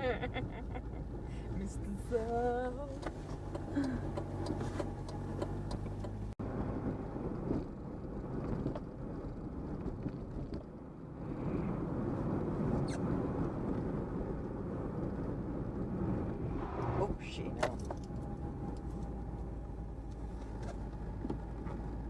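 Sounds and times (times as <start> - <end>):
car engine: 0.0 - 22.0
road rumble with tyre hiss: 0.0 - 22.0.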